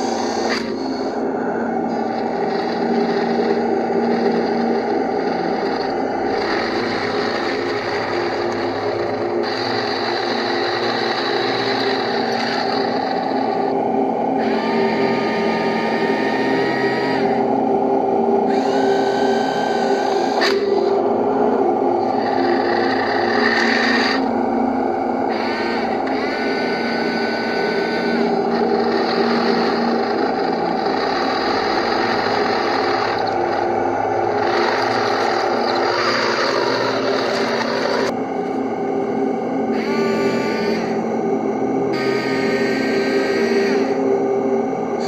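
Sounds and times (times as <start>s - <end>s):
toy tank motors whining: 0.0s - 38.2s, 39.7s - 41.0s.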